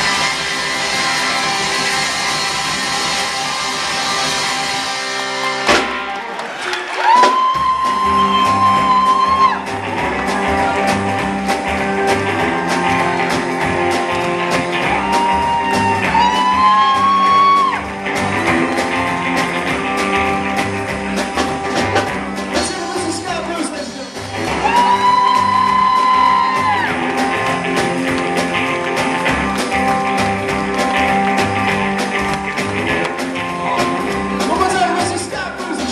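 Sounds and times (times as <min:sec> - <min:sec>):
drums with steady beat: 0:00.0 - 0:06.2, 0:06.9 - 0:35.9
electric guitar: 0:00.0 - 0:35.9
bass line: 0:07.1 - 0:35.9.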